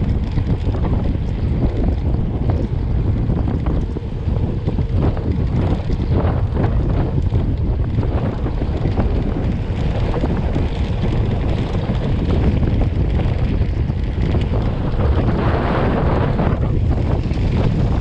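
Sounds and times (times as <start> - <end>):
bike riding on dirt road: 0.0 - 18.0
wind buffeting microphone: 0.0 - 18.0.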